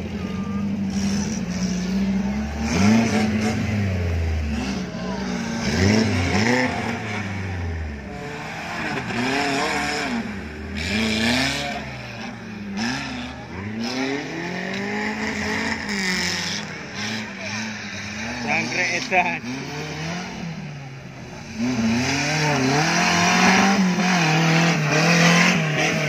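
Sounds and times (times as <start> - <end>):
engine revving hard: 0.8 - 20.8, 21.4 - 26.0.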